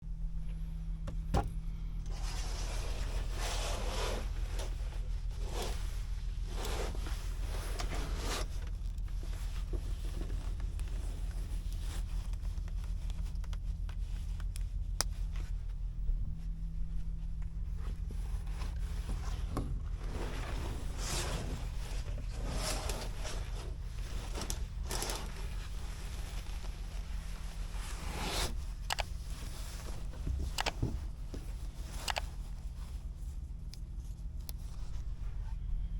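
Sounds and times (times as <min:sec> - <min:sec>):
low machine hum: 0:00.0 - 0:35.9
rustling and shuffling: 0:00.1 - 0:35.9.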